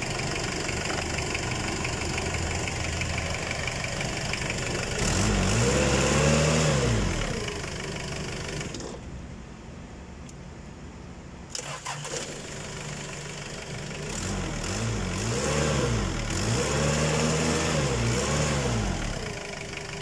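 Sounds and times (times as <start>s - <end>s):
diesel engine idling and revving: 0.0s - 9.4s, 11.5s - 20.0s.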